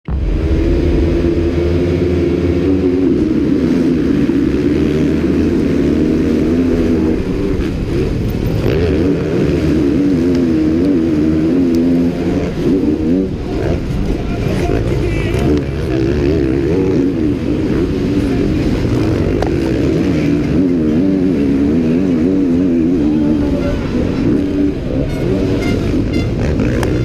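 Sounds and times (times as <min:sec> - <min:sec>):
other motocross bikes: 0:00.0 - 0:27.0
motocross bike engine revving: 0:00.1 - 0:27.0.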